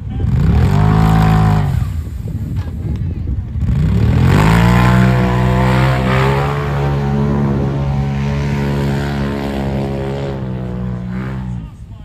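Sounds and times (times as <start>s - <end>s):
engine at high revs: 0.2s - 2.0s, 3.6s - 11.8s.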